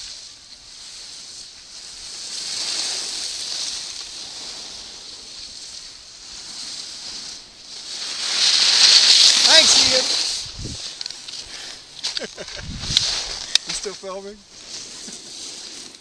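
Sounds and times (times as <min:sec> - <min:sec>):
skis scraping across snow: 0:00.0 - 0:16.0.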